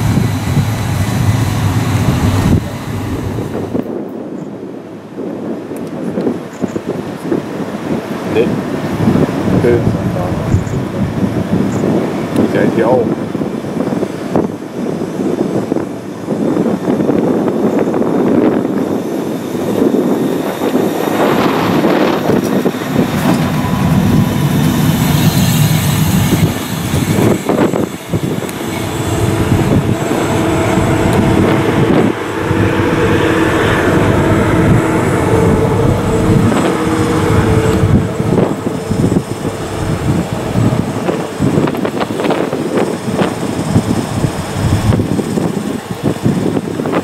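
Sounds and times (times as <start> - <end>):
locomotive humming tone: 0.0 - 47.0
wheels rumbling on rails: 0.0 - 47.0.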